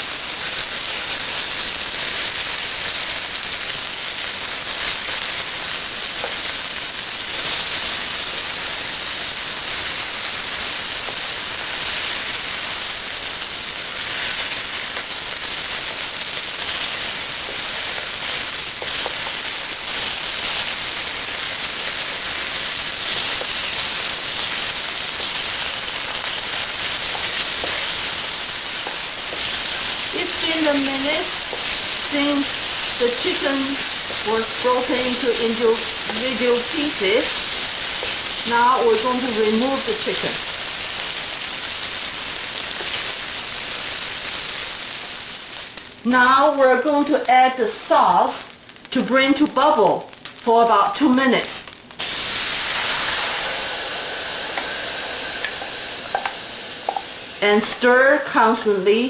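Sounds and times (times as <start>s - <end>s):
chicken sizzling in hot oil: 0.0s - 58.8s.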